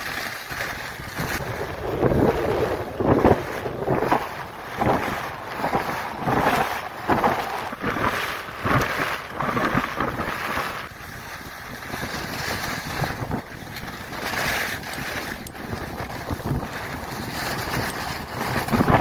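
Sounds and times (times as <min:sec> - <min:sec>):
skis scraping on snow: 0:00.0 - 0:19.0
wind rushing over microphone: 0:00.0 - 0:19.0.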